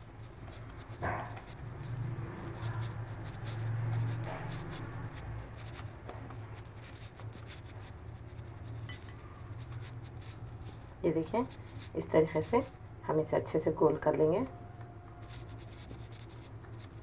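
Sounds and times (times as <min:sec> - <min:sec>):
hands rubbing dough: 0:00.0 - 0:17.0
steady low hum: 0:00.0 - 0:17.0.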